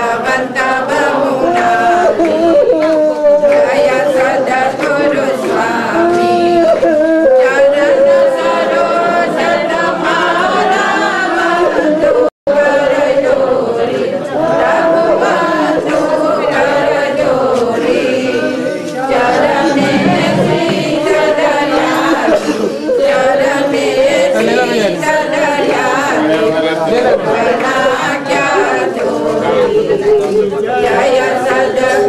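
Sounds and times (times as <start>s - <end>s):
group singing devotional song: 0.0s - 32.0s.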